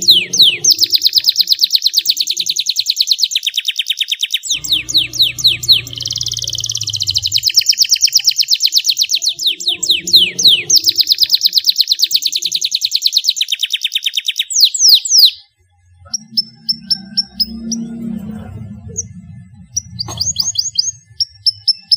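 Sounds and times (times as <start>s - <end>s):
short high bird chirps: 0.0s - 15.5s, 19.8s - 21.9s
canary singing rapid trills: 0.0s - 21.9s.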